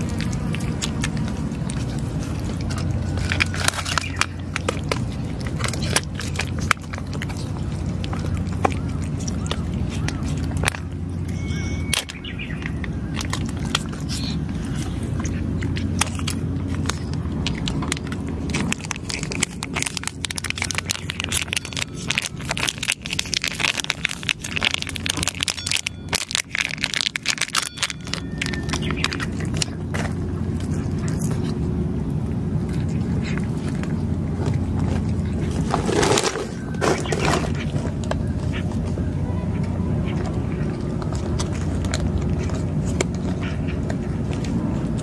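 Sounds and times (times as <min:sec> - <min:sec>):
cat crunching dry food: 0:00.0 - 0:45.0
steady low hum: 0:00.0 - 0:45.0.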